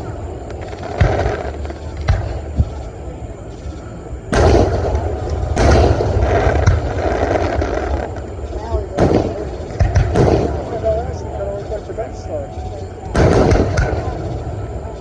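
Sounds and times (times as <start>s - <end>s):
fireworks bangs: 0.0s - 3.1s, 4.3s - 12.2s, 13.1s - 15.0s
fireworks booms rumbling: 0.0s - 12.3s, 13.1s - 15.0s.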